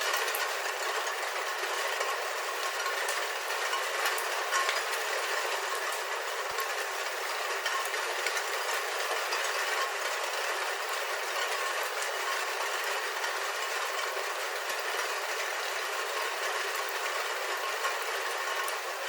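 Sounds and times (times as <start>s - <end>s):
rain on a roof: 0.0s - 19.0s.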